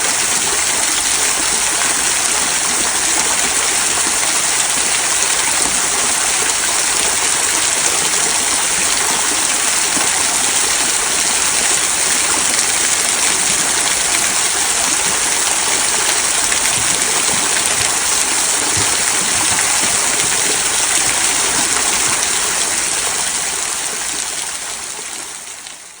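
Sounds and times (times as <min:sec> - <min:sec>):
waterfall trickling over stones: 0:00.0 - 0:26.0.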